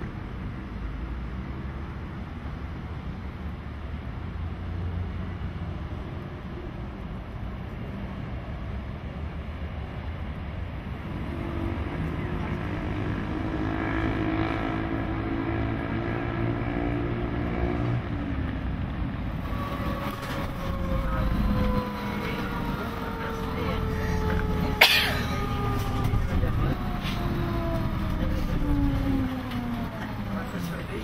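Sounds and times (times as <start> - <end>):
engine whine inside moving vehicle: 0.0 - 31.0
street traffic rumble: 0.0 - 31.0
vehicle engine hum: 0.0 - 31.0.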